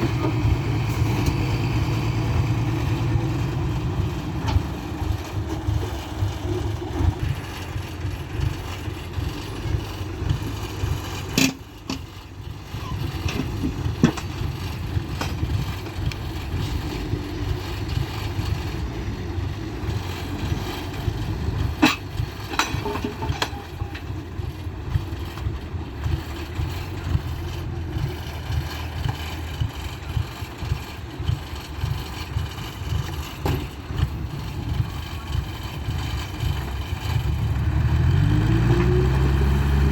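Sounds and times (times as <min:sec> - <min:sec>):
truck diesel engine rumbling: 0:00.0 - 0:39.9.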